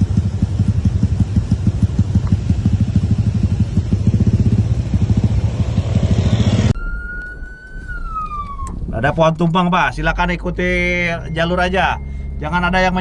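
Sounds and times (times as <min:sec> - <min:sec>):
traffic rush: 0:00.0 - 0:13.0
vehicle engine throbbing: 0:00.0 - 0:13.0.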